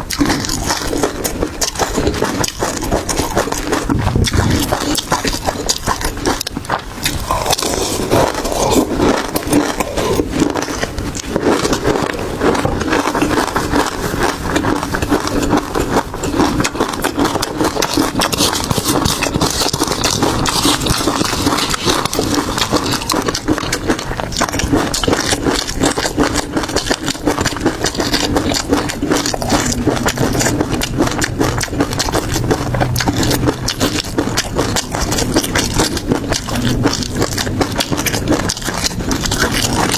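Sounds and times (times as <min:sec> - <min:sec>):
person chewing crunchy seafood: 0:00.0 - 0:39.9
shell crackles and scrapes: 0:00.0 - 0:39.9.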